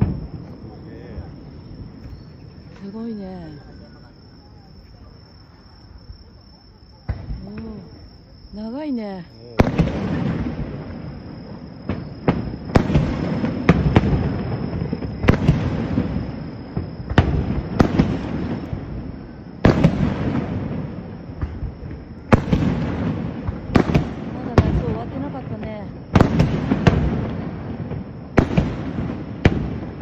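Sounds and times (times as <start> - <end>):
fireworks bursting with rumbling echo: 0.0 - 30.0.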